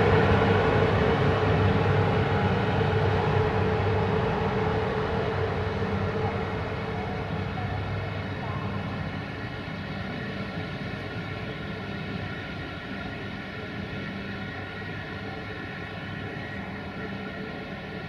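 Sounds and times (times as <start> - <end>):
electric locomotive hum and whine: 0.0 - 18.0.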